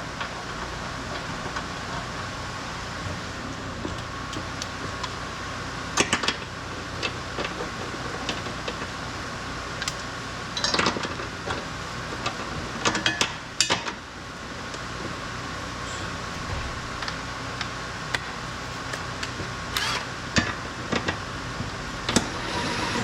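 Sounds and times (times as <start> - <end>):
steady workshop hum: 0.0 - 23.0.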